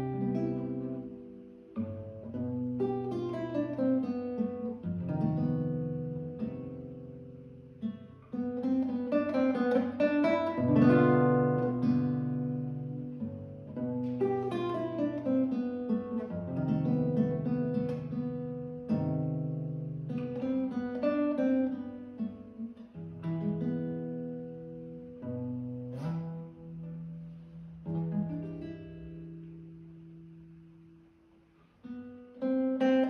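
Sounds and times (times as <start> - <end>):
classical guitar fingerstyle: 0.0 - 33.0.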